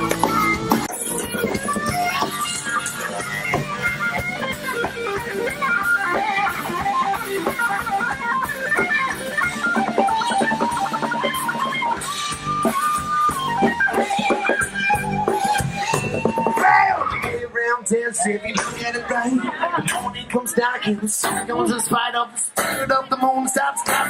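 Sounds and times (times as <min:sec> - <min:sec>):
band music with melodic guitar: 0:00.0 - 0:17.6, 0:18.2 - 0:24.0.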